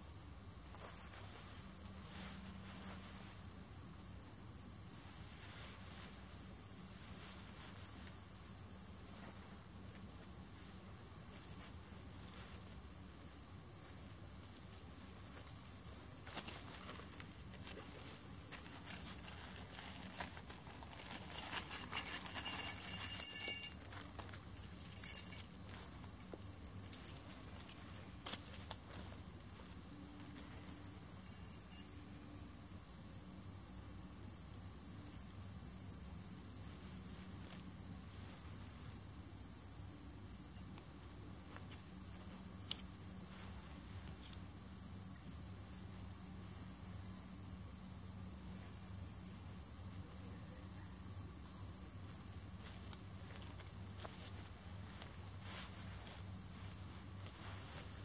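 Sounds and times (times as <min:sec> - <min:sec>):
insects chirping chorus: 0:00.0 - 0:58.0.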